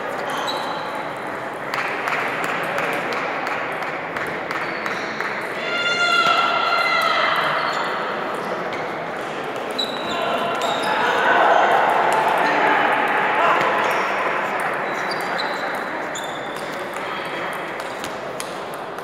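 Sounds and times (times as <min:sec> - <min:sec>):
background chatter: 0:00.0 - 0:19.0.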